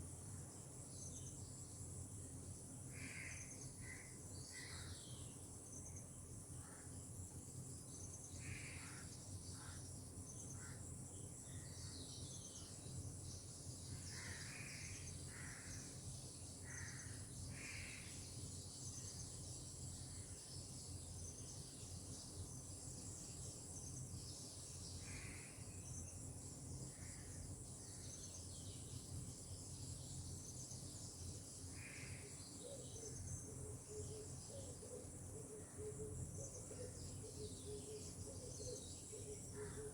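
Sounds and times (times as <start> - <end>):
high insect trill: 0.1 - 39.9.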